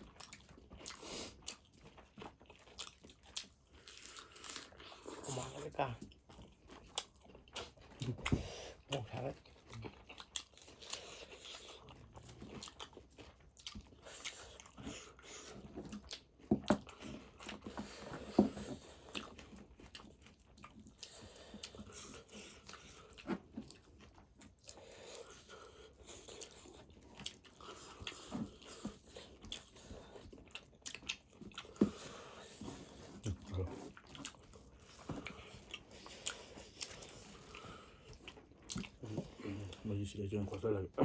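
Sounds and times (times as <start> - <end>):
chewing and biting: 0.0 - 41.0.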